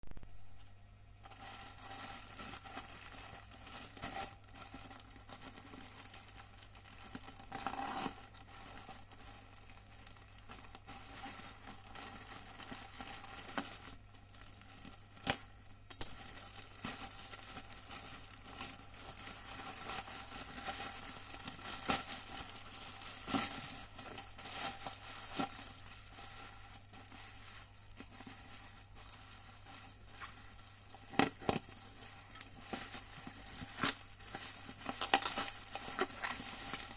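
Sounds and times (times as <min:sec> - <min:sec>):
faint low hum: 0:00.0 - 0:36.9
packaging crinkling and tearing: 0:01.2 - 0:36.9.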